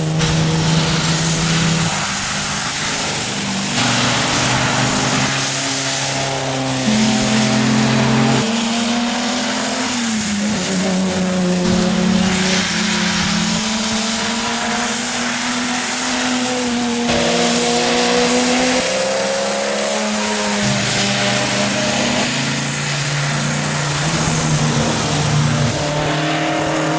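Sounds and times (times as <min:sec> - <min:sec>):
rally car engines revving: 0:00.0 - 0:26.9
tyres hissing on wet road: 0:00.0 - 0:26.9.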